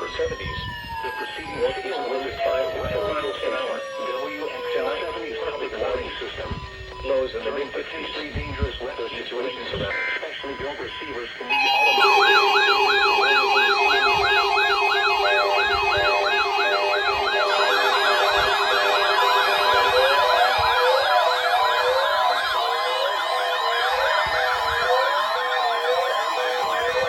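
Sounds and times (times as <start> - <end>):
weather alert alarm wailing: 0.0 - 27.0.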